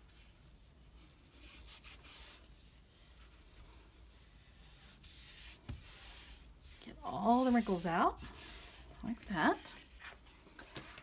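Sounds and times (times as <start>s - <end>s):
hands brushing fabric on paper: 0.0s - 11.0s.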